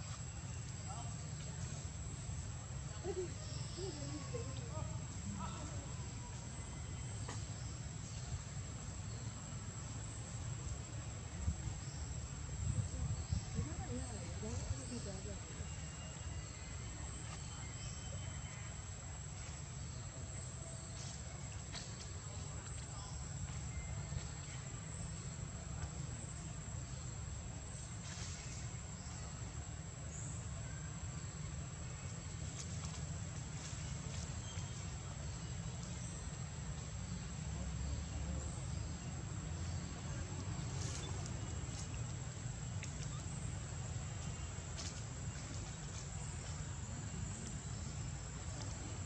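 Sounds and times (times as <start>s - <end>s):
insects droning: 0.0s - 49.0s
low outdoor rumble: 0.0s - 49.0s.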